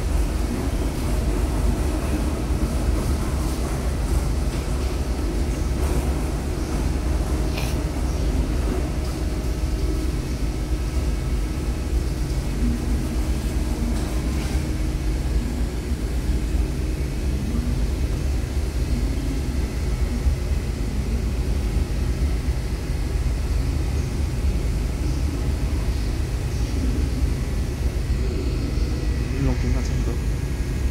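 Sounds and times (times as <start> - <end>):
faint constant hum: 0.0 - 30.9
low engine rumble: 0.0 - 30.9.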